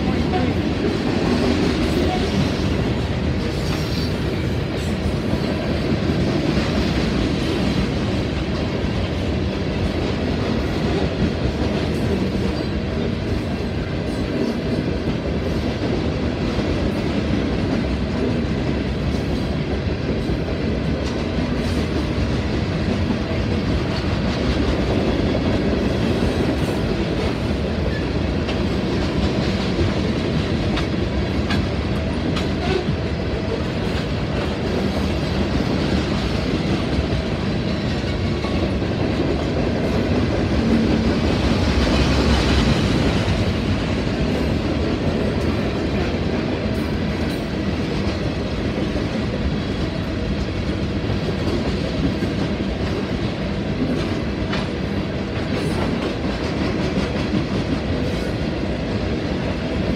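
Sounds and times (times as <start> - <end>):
freight train wheels rattling: 0.0 - 59.9.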